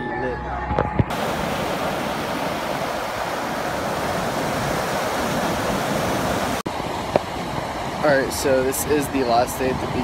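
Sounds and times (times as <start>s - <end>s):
ocean surf washing up sand: 1.1s - 10.0s.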